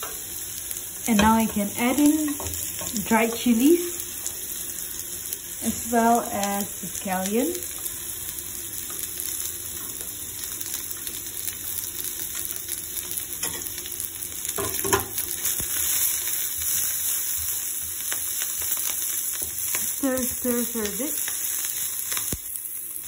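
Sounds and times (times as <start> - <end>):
aromatics sizzling in hot oil: 0.0 - 23.0.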